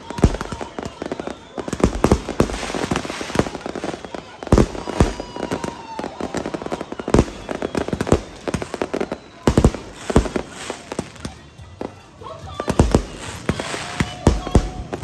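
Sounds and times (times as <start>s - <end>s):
fireworks crackling: 0.0s - 15.0s
heavy firework bangs: 0.0s - 15.0s.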